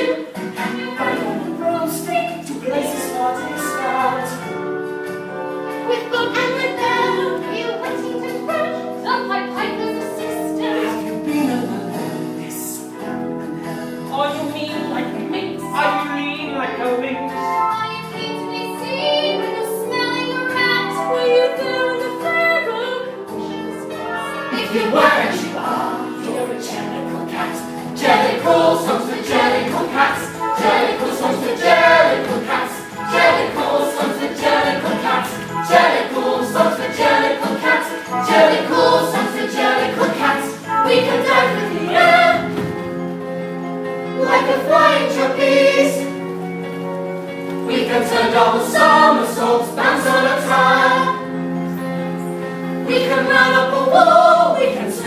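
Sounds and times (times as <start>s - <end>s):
chorus singing: 0.0s - 14.2s, 17.8s - 43.2s, 44.0s - 46.8s, 47.4s - 55.0s
instrumental accompaniment: 0.0s - 55.0s.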